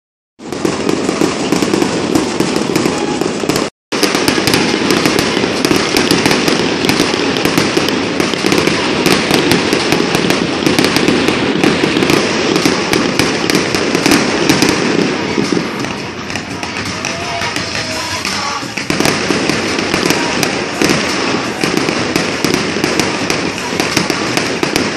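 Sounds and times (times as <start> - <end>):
fireworks fountain crackling hiss: 0.4 - 24.9.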